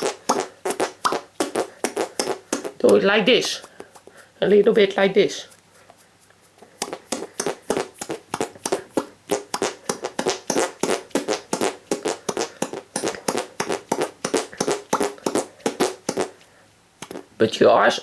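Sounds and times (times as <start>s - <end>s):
hand fart noises: 0.0s - 4.8s, 5.8s - 17.4s.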